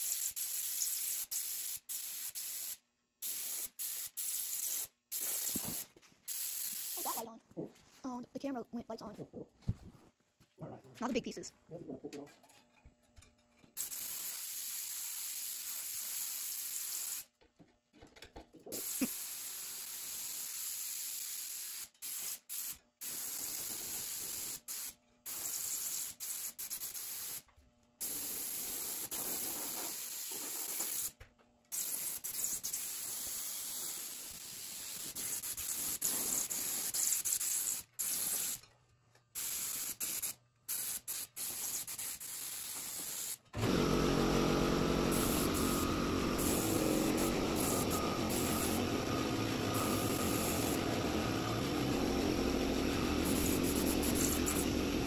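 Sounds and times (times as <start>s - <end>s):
paint spray gun hissing: 0.0s - 7.2s, 13.8s - 17.3s, 18.7s - 27.4s, 28.0s - 31.1s, 31.8s - 38.6s, 39.4s - 55.0s.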